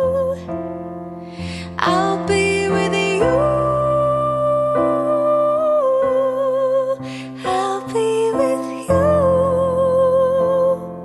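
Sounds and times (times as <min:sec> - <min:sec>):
woman singing: 0:00.0 - 0:00.5, 0:01.4 - 0:11.0.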